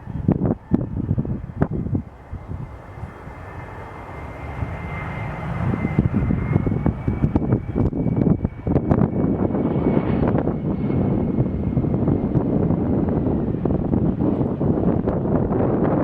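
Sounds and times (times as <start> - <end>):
jet engine whine: 0.0 - 16.0
low rumble: 0.0 - 16.0.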